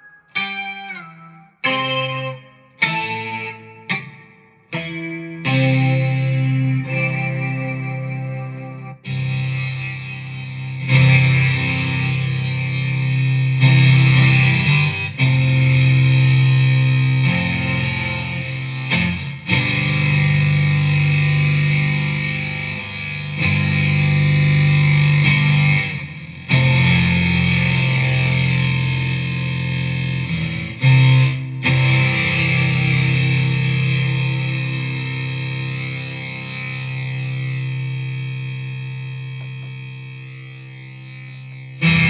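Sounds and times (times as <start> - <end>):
synth guitar chords: 0.0 - 42.0.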